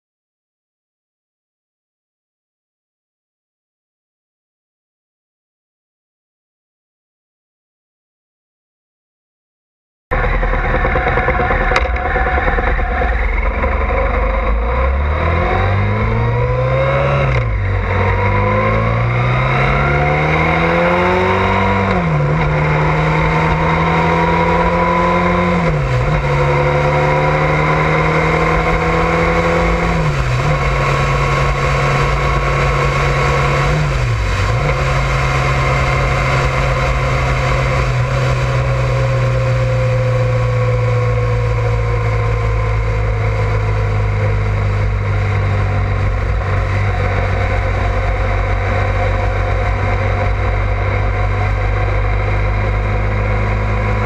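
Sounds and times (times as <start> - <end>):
motorcycle engine accelerating: 10.1 - 54.0
wind and road noise: 10.1 - 54.0.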